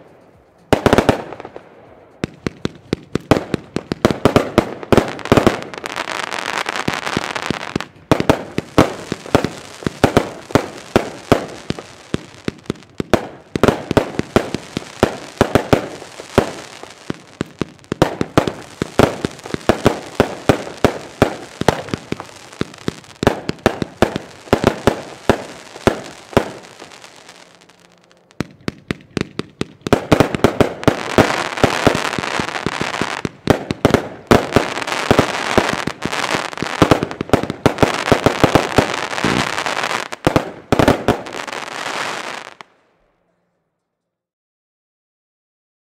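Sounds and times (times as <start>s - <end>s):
firework crackling: 0.0s - 42.7s
firework battery popping: 2.2s - 42.7s.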